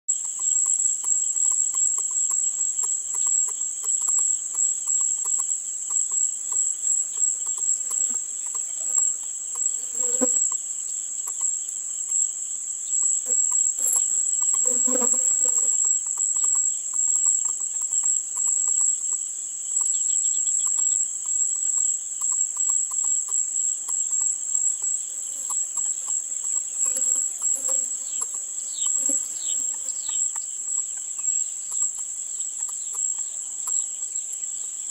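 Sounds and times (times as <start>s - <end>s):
insects droning high-pitched: 0.1s - 34.9s.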